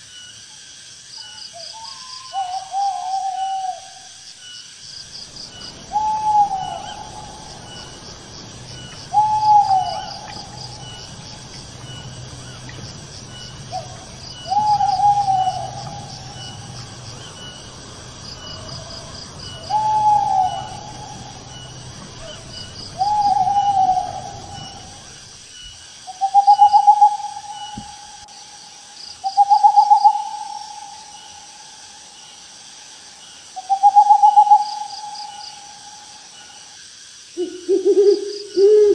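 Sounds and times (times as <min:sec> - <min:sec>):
crickets chirping: 0:00.0 - 0:38.9
owl hooting: 0:01.6 - 0:04.2, 0:05.2 - 0:25.4, 0:26.1 - 0:28.3, 0:29.2 - 0:31.6, 0:33.6 - 0:36.6, 0:37.4 - 0:38.9.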